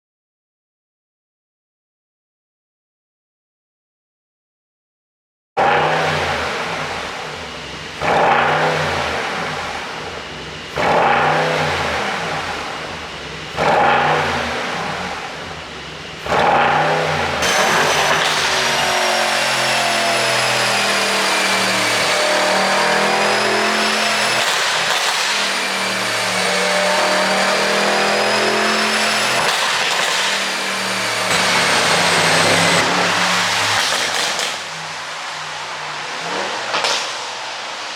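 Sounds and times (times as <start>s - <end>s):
car engine revving: 5.6s - 37.9s
high engine whine: 5.7s - 37.9s.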